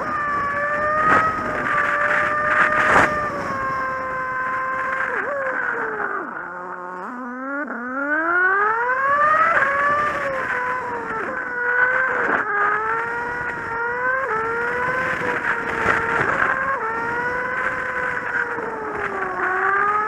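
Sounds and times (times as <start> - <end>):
wind noise: 0.0 - 7.2, 8.3 - 20.0
motorcycle engine revving: 0.0 - 20.0.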